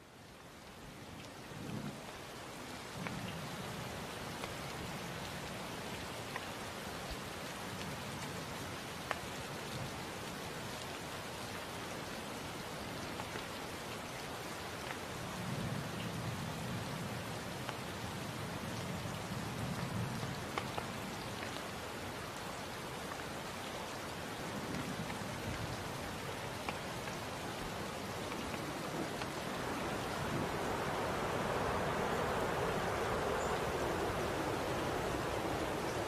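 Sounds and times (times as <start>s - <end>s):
sharp ticks of raindrops: 0.0s - 36.0s
steady rain falling: 0.0s - 36.0s.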